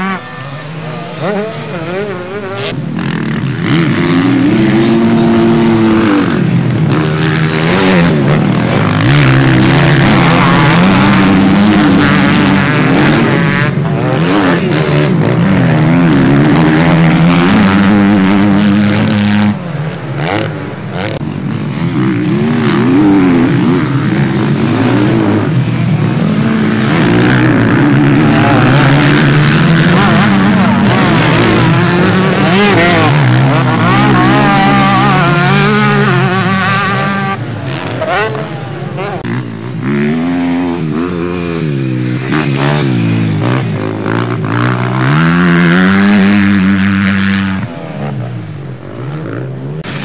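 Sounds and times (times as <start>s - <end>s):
motocross bikes revving: 0.0s - 50.0s.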